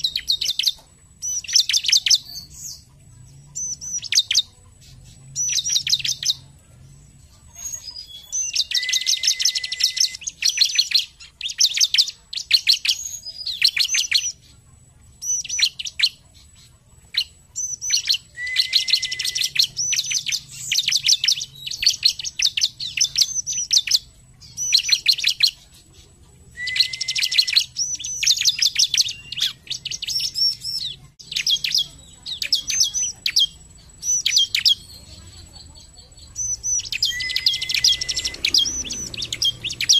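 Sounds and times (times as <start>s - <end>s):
small bird singing high sharp notes: 3.5s - 6.5s, 7.5s - 14.6s, 17.1s - 39.9s.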